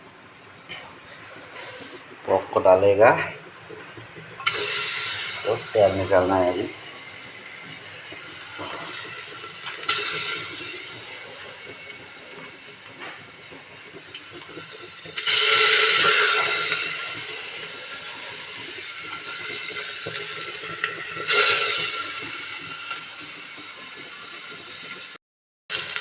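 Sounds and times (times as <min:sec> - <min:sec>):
pork sizzling in a pot: 0:01.1 - 0:26.0.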